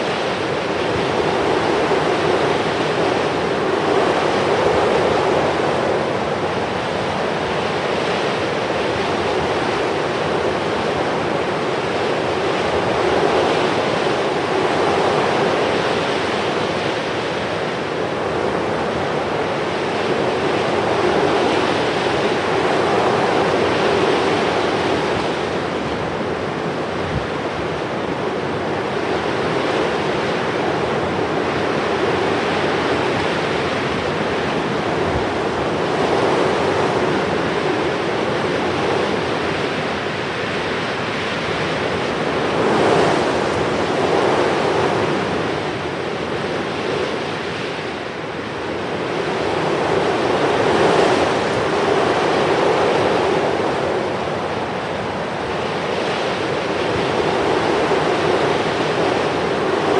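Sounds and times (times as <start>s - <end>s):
sea waves washing: 0.0s - 59.9s.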